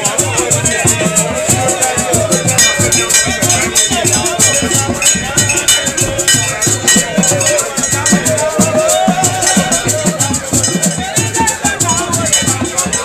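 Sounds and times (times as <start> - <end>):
jangling metal bells and rattles: 0.0 - 13.0
low drum strokes: 0.0 - 13.0.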